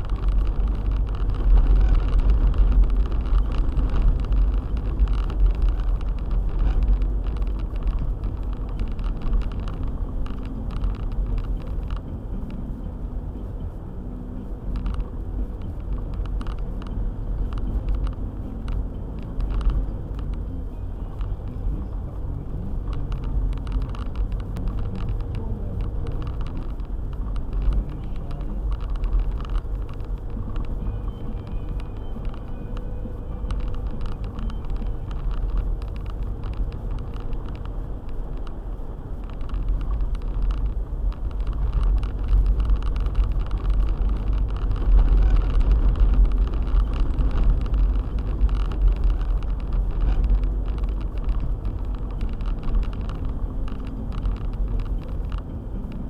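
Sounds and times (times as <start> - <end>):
car driving on snowy road: 0.0 - 56.0.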